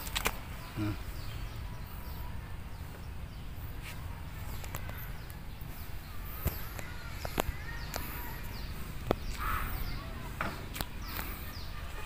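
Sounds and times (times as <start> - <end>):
faint bird chirps: 0.5 - 12.0.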